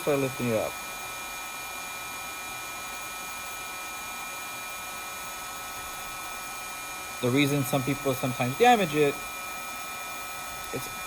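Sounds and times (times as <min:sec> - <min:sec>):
heat gun blowing: 0:00.0 - 0:11.0.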